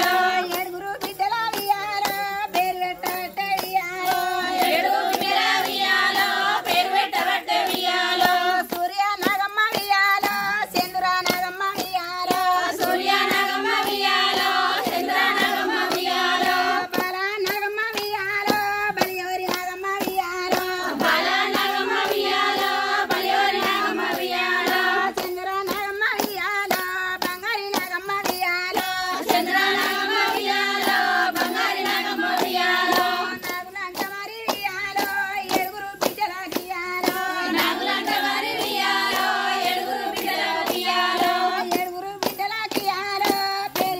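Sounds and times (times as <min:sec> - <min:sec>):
rhythmic hand claps: 0:00.0 - 0:43.9
women singing in unison: 0:00.0 - 0:43.9.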